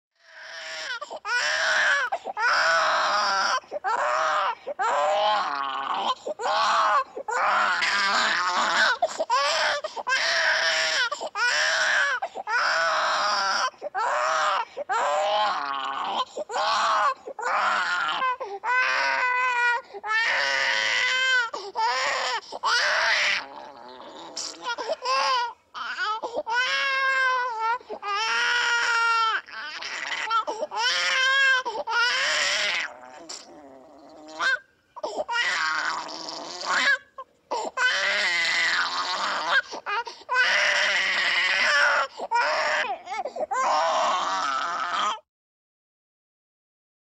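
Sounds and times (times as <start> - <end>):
baby crying: 0.3 - 45.2.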